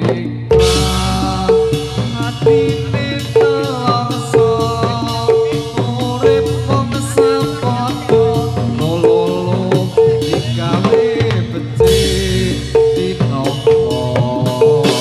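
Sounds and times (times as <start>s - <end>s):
gamelan music over loudspeakers: 0.0s - 15.0s
steady drumming: 0.0s - 15.0s.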